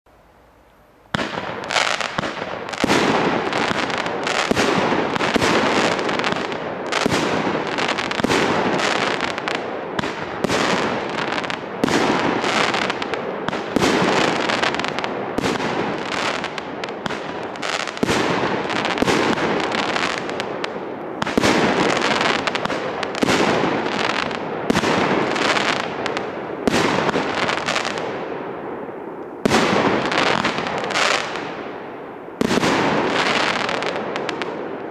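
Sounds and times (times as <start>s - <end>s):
firework aerial bursts: 1.1s - 28.3s, 29.4s - 31.7s
firework sparks crackling: 1.1s - 34.9s.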